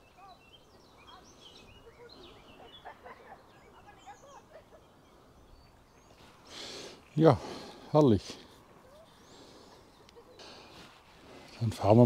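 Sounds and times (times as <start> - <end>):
birds chirping and whistling: 0.0 - 7.8, 9.1 - 11.7.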